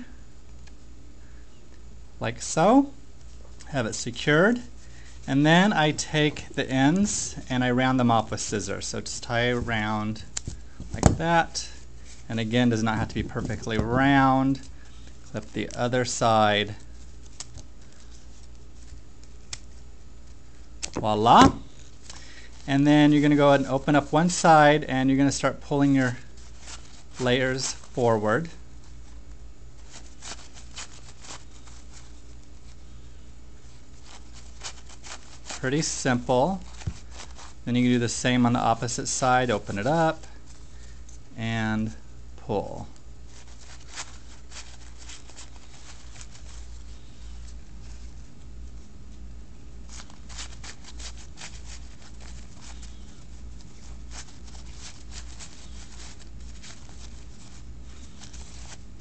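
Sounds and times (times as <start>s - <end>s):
low steady hum: 0.0s - 59.0s
paper napkins rustling and crinkling: 2.4s - 59.0s.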